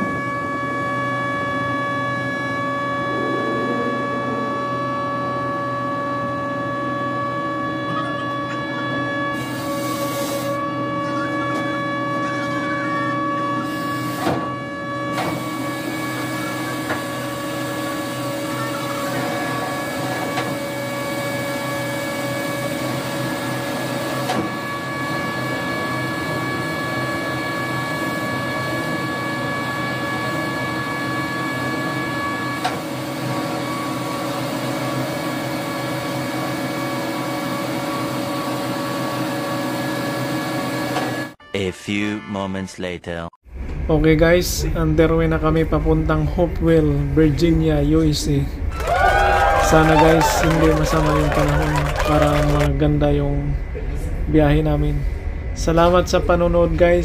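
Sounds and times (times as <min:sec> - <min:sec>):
winch whining over hum: 0:00.0 - 0:41.4, 0:43.5 - 0:57.0.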